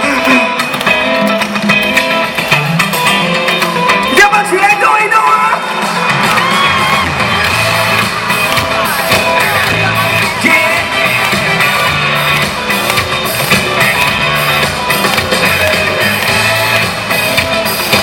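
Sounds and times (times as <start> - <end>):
live band playing pop dance music: 0.0 - 18.0.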